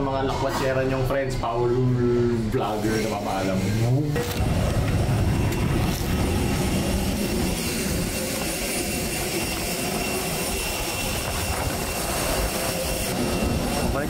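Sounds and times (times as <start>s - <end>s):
jet aircraft rumble and whine: 0.0s - 14.0s
wind on microphone: 2.0s - 14.0s.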